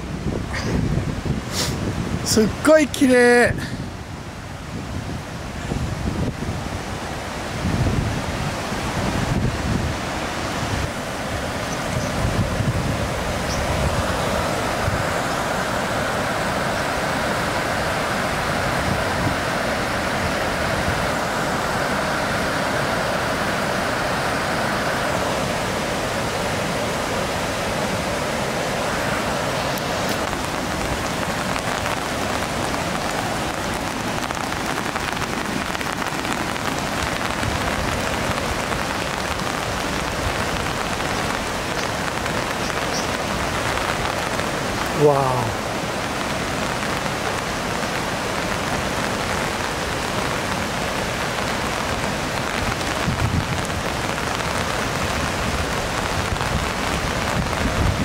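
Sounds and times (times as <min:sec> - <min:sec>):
falling rain: 0:00.0 - 0:58.0
waterfall rushing: 0:00.0 - 0:58.0.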